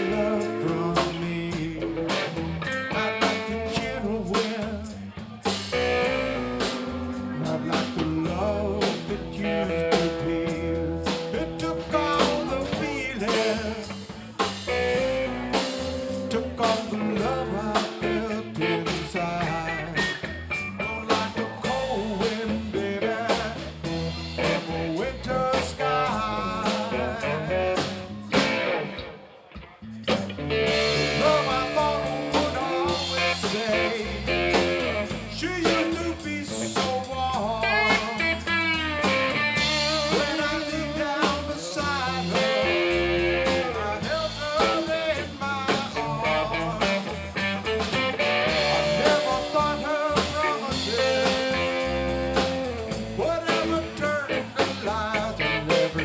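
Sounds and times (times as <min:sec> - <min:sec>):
electric guitar: 0:00.0 - 0:56.0
instrumental blues-rock band: 0:00.0 - 0:56.0.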